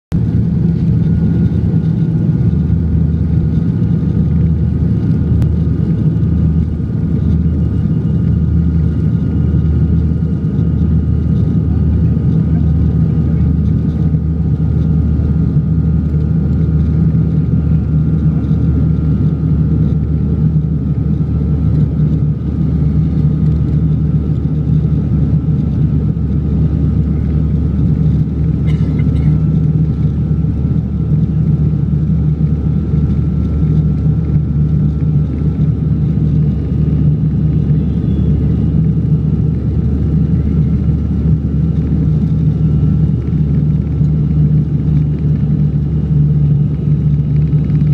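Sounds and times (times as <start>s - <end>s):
plane engines droning: 0.1s - 47.9s.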